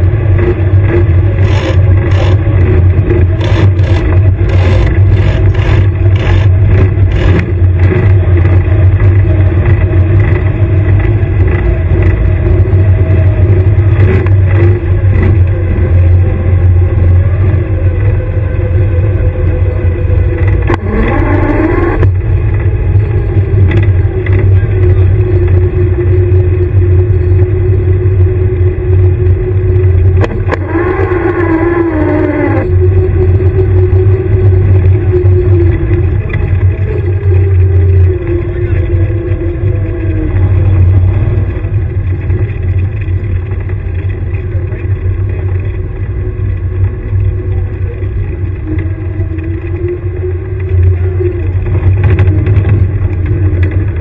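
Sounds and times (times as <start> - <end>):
short rising whine: 0.0 - 54.0
vehicle engine low drone: 0.0 - 54.0.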